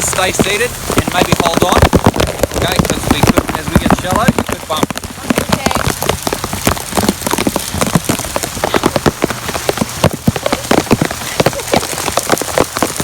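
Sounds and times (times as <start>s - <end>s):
heavy rain drops tapping: 0.0s - 13.0s.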